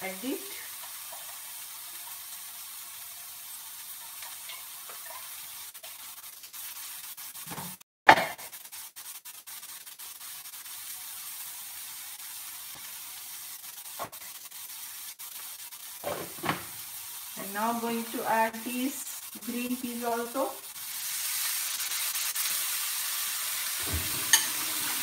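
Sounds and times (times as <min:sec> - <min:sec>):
vegetables sizzling in hot oil: 0:00.0 - 0:07.8, 0:08.4 - 0:25.0.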